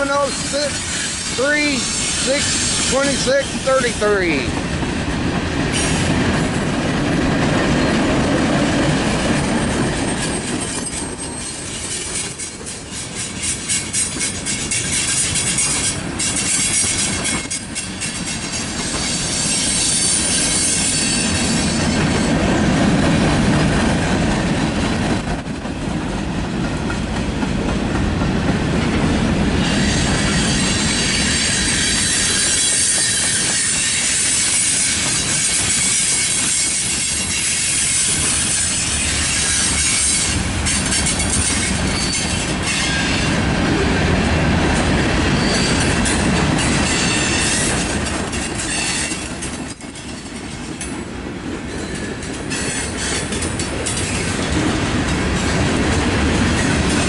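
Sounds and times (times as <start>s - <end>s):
wheels clacking over rail joints: 4.5s - 57.0s.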